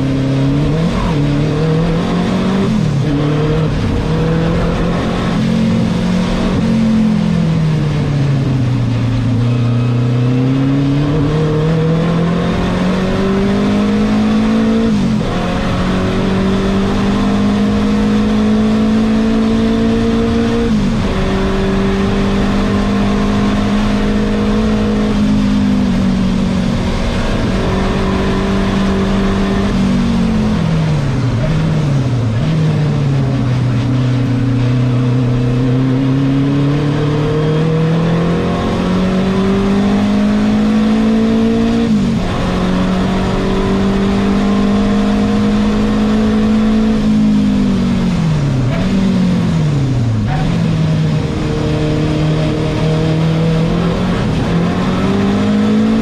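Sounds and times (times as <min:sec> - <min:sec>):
car engine revving from cabin: 0:00.0 - 0:08.1, 0:09.1 - 0:56.0.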